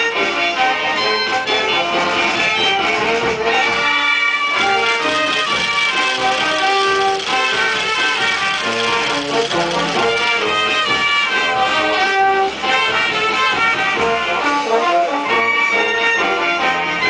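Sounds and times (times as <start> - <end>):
brass instrumental music: 0.0 - 17.0.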